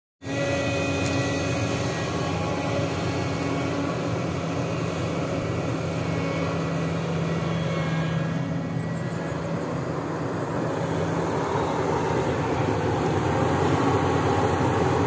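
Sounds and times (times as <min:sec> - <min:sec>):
excavator diesel engine running: 0:00.2 - 0:15.0.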